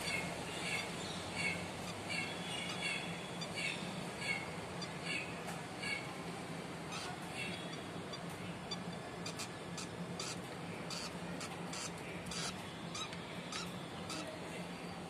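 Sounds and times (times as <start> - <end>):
lovebirds chirping: 0.0 - 6.1, 6.9 - 15.0
steady low hum: 0.0 - 15.0.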